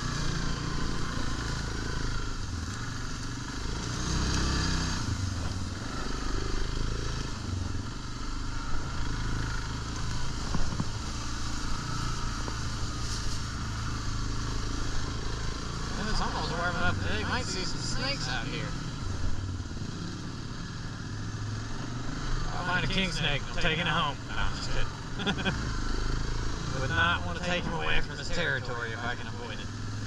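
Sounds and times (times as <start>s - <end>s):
quad engine running: 0.0s - 30.0s.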